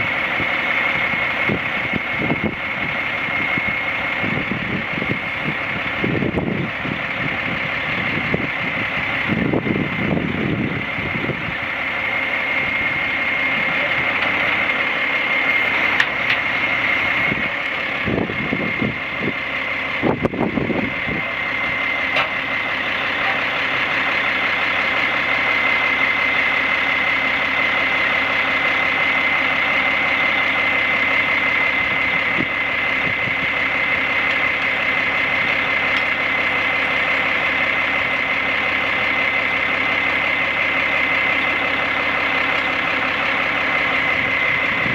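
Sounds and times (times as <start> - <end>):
diesel engine idling: 0.0 - 44.9
high-pitched whine: 0.0 - 44.9.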